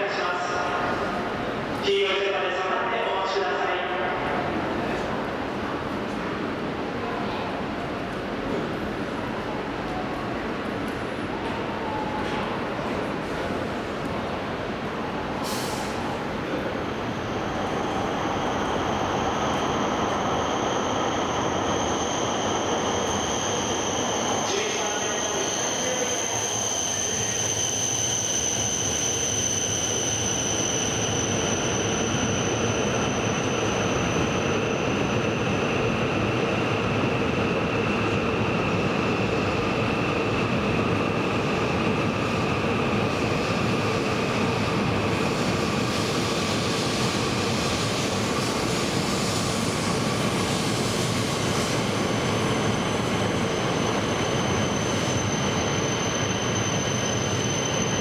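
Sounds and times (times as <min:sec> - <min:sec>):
train arriving with whining tones: 0:00.0 - 0:58.0.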